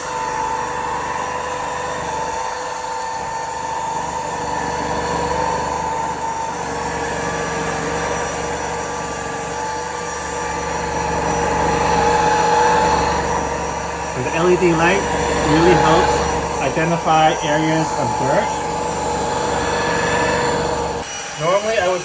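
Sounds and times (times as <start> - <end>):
stick vacuum running: 0.0 - 22.0.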